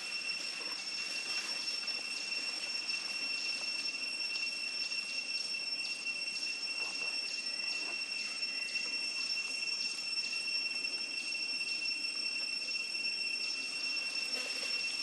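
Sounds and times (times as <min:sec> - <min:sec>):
high-pitched insect drone: 0:00.0 - 0:15.0
pulsing insect chirp: 0:00.0 - 0:15.0.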